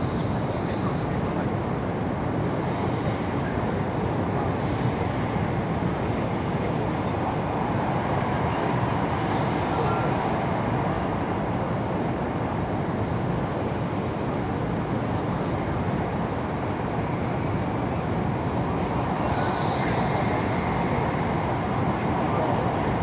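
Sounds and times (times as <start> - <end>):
faint high whine: 0.0 - 23.0
high-speed train rumbling: 0.0 - 23.0.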